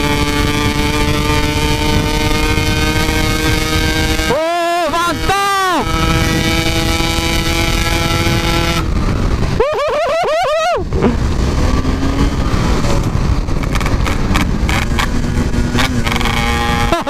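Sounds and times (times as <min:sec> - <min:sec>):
motorcycle engine revving: 0:00.0 - 0:09.6, 0:10.8 - 0:17.0.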